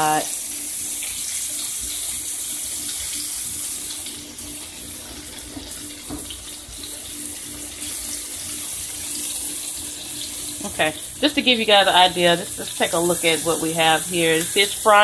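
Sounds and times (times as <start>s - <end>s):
deep-frying sizzle in oil: 0.0s - 15.0s.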